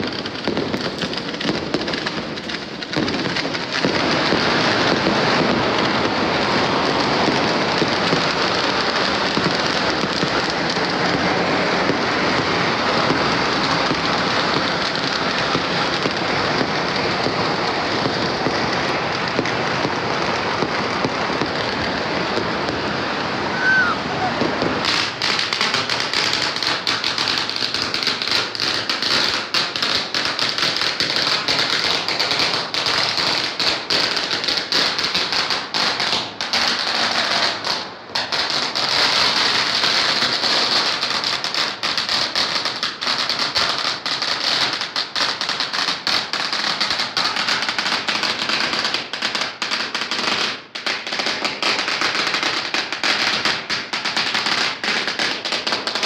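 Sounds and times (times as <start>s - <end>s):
firecrackers crackling: 0.0s - 56.0s.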